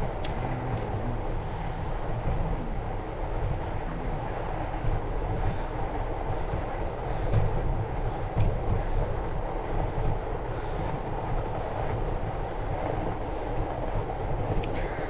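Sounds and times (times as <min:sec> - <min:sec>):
bike tyres rolling on snow: 0:00.0 - 0:15.0.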